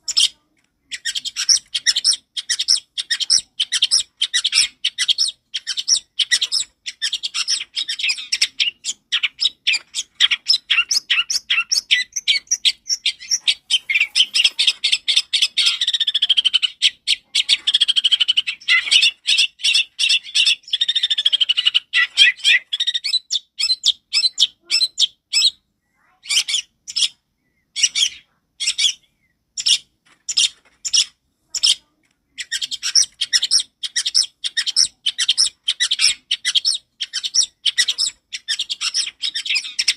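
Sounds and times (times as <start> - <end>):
shrike singing fast chattering song: 0.0 - 25.5, 29.6 - 39.9.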